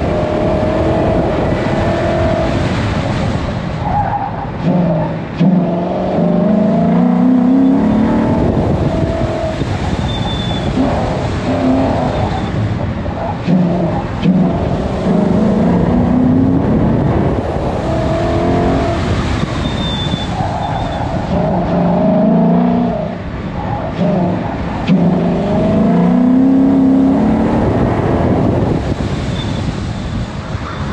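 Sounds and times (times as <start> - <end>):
car engine revving: 0.0 - 3.4, 4.4 - 29.9.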